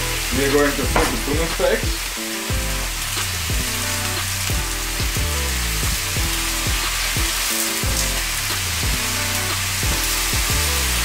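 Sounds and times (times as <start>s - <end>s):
background music: 0.0s - 11.0s
food sizzling in oil: 0.0s - 11.0s.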